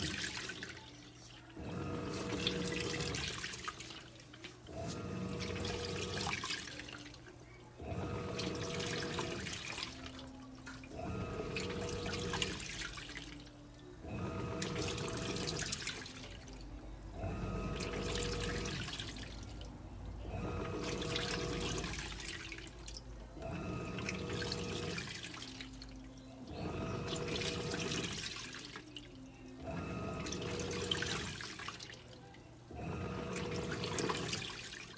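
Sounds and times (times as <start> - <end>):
washing machine motor humming: 0.0 - 34.9
water sloshing in drum: 0.0 - 34.9.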